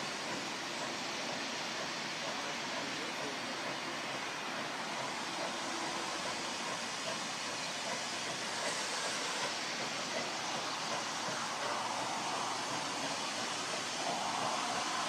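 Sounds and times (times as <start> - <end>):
distant steam train approaching: 0.0 - 15.0.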